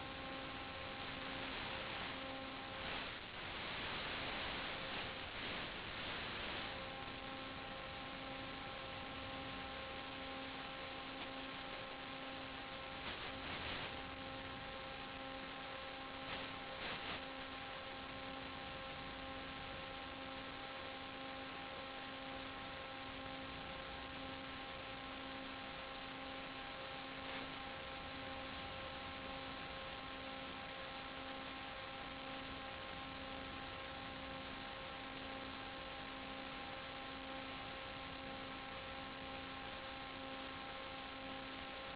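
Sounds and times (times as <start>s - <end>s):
electrical hum: 0.0s - 41.9s
steady hiss: 0.0s - 41.9s.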